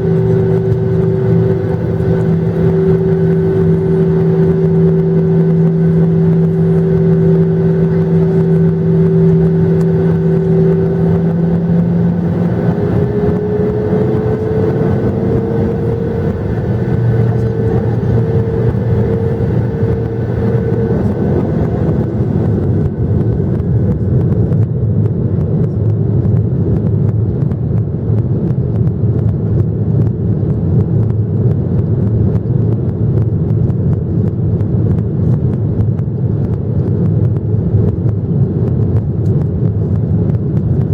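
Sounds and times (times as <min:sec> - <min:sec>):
jet engine whine: 0:00.0 - 0:40.9
low rumble: 0:00.0 - 0:40.9.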